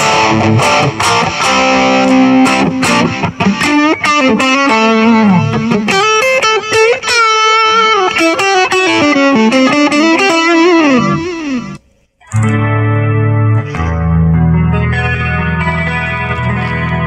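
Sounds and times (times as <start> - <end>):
electric guitar lead line: 0.0 - 17.0.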